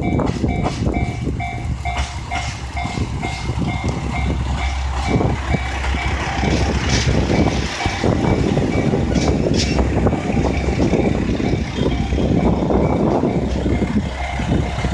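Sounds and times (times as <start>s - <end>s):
train rumbling past: 0.0s - 14.9s
train wheel clatter: 0.0s - 14.9s.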